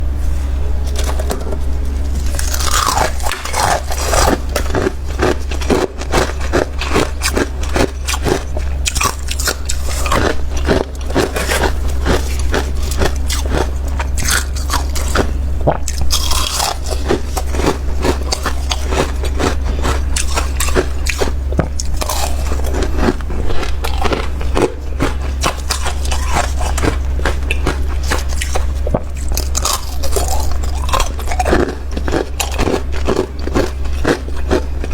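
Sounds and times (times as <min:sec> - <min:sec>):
steady low hum: 0:00.0 - 0:34.9
crunching of frost being chewed: 0:00.4 - 0:34.9.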